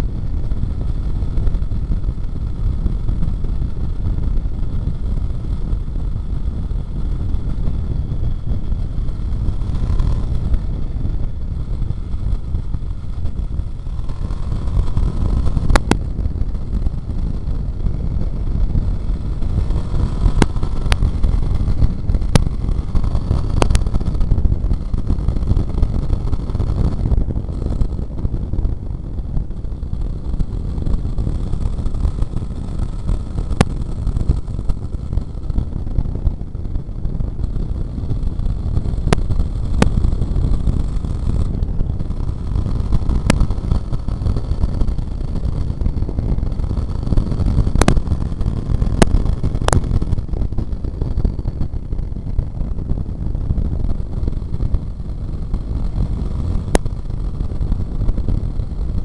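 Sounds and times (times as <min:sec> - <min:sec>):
motorcycle engine rumble: 0:00.0 - 0:59.0
wind noise: 0:00.0 - 0:59.0.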